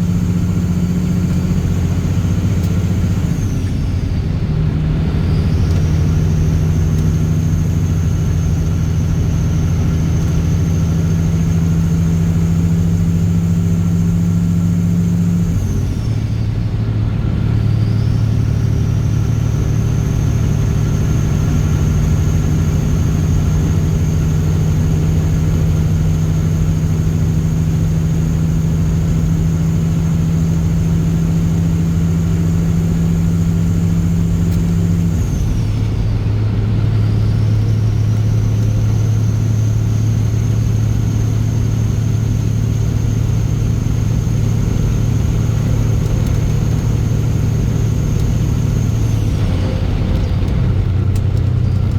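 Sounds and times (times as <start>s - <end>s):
truck diesel engine running: 0.0s - 51.9s.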